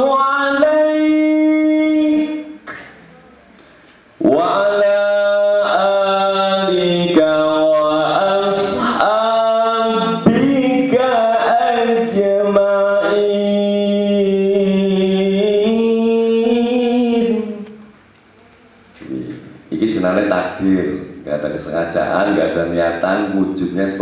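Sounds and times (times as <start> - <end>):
man singing unaccompanied: 0.0 - 3.0, 4.1 - 18.1, 19.0 - 24.0.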